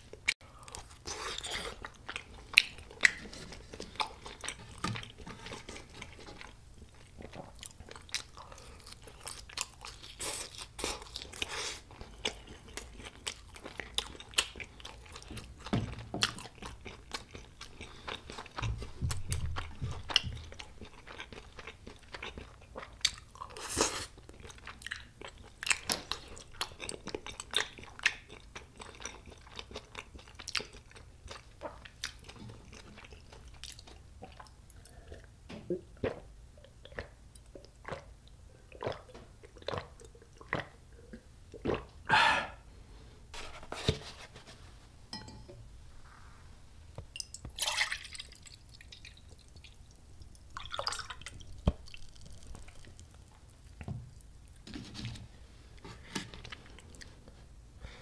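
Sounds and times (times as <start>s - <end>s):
crunching and chewing fried food: 0.1s - 35.4s, 36.6s - 42.0s, 48.1s - 54.7s.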